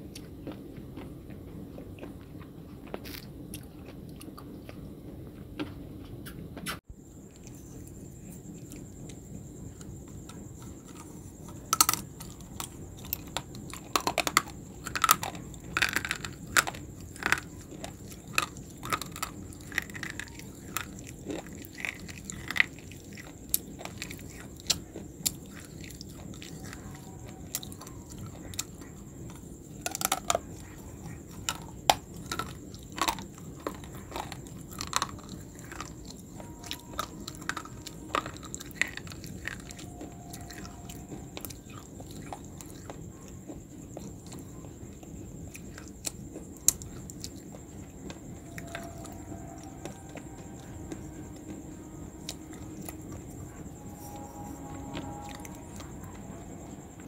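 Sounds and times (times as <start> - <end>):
person chewing crunchy sticks: 0.0 - 5.4, 7.1 - 56.8.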